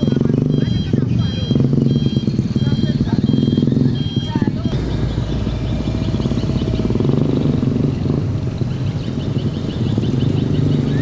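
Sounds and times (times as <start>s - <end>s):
birds chirping: 0.0s - 11.0s
diesel truck engine running: 0.0s - 11.0s.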